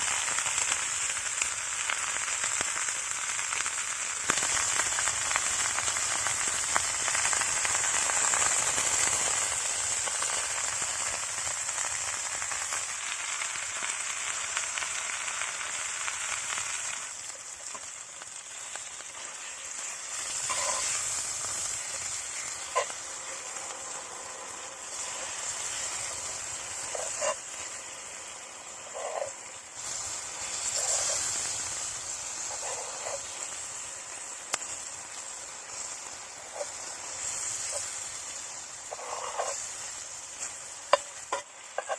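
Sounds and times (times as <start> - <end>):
meat sizzling in a pan: 0.0 - 41.9.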